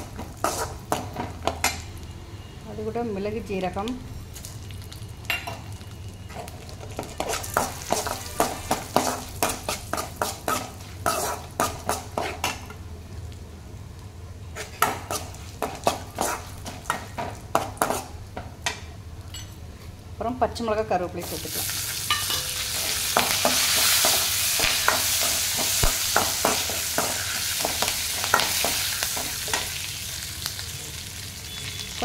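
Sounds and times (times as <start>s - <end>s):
ghee sizzling: 0.0s - 19.3s, 21.0s - 32.0s.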